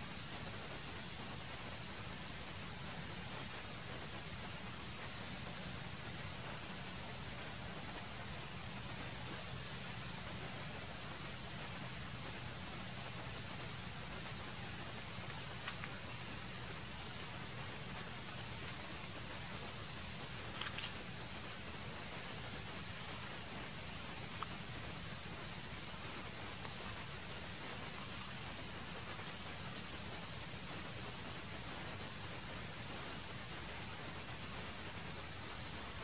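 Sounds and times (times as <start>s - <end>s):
insect chorus drone: 0.0s - 36.0s.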